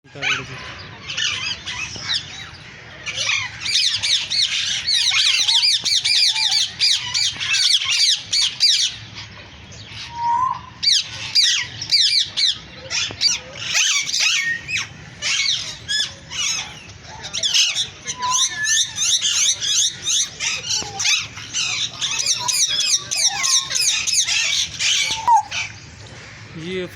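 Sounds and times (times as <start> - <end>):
parrots chattering and squawking: 0.1 - 26.5.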